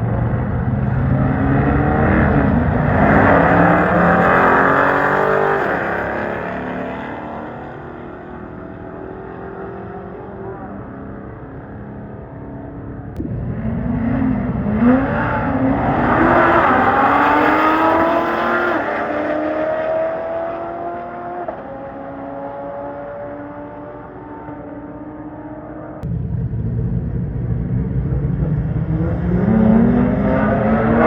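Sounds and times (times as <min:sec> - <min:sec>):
car accelerating hard: 0:00.0 - 0:26.0, 0:27.5 - 0:31.0.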